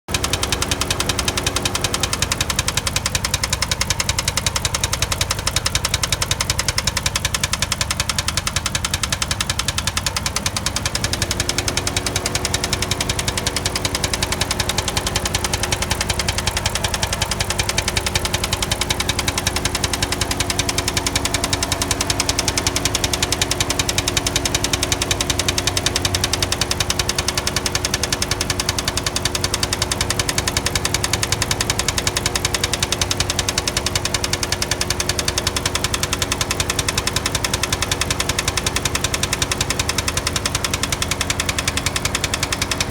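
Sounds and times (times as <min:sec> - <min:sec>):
car engine running: 0:00.1 - 0:42.9
fast engine ticking: 0:00.1 - 0:42.9.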